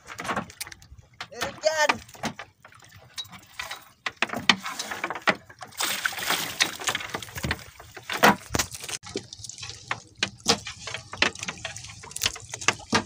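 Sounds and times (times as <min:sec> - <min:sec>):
seawater splashing and dripping: 0:00.0 - 0:13.0.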